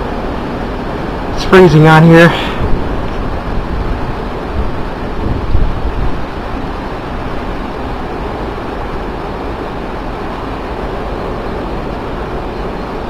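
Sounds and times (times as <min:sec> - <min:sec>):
strong wind blowing: 0:00.0 - 0:13.0.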